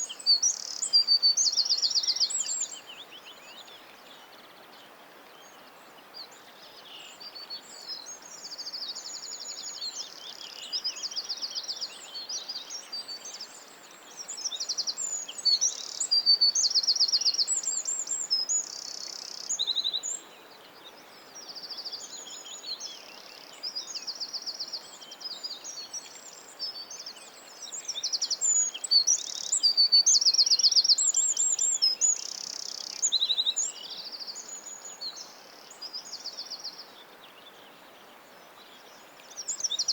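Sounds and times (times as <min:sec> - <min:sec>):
faint background hiss: 0:00.0 - 0:39.9
songbirds trilling and chirping: 0:00.0 - 0:39.9.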